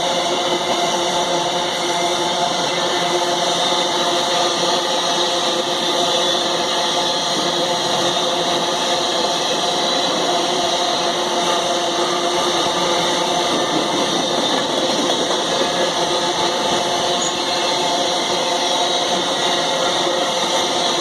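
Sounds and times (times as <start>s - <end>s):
train engine: 0.0s - 21.0s
train wheels rolling on rails: 0.0s - 21.0s.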